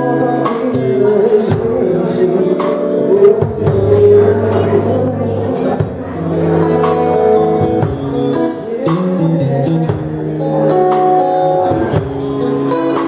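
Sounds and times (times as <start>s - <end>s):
guitar chords: 0.0s - 13.0s
drum kit beat: 0.4s - 13.0s.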